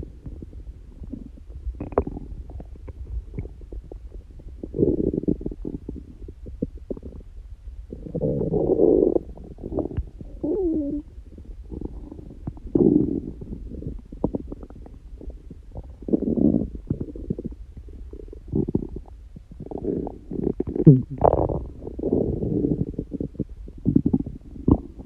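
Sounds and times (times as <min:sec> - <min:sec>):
stomach growling: 0:00.0 - 0:25.0.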